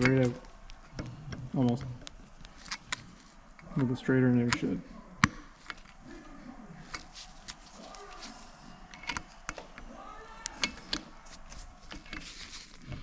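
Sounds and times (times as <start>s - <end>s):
metallic clicks and scrapes: 0.0s - 4.8s, 6.8s - 13.0s.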